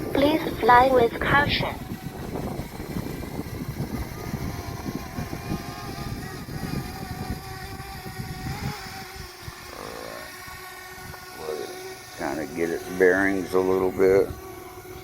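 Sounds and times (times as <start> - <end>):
wind buffeting microphone: 0.0 - 9.8, 10.4 - 11.4, 12.1 - 15.0
faint steady whine: 0.0 - 15.0.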